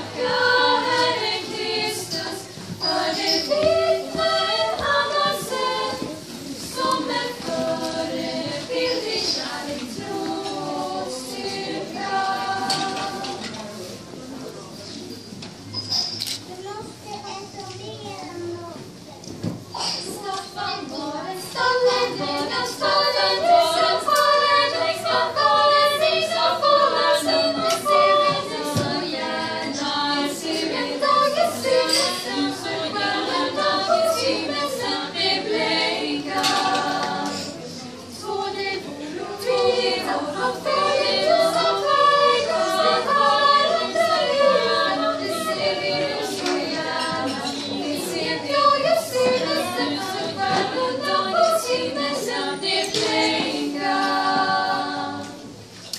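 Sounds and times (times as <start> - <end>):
women singing a cappella: 0.0 - 14.1, 19.8 - 55.8.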